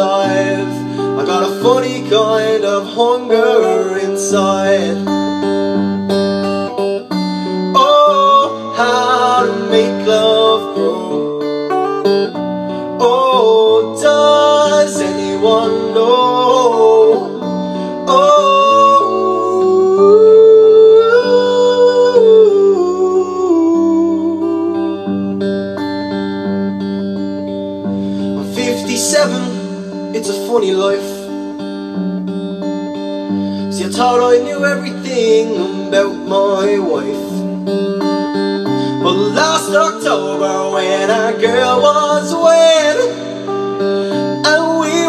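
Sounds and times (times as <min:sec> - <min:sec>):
electric guitar playing: 0:00.0 - 0:45.0.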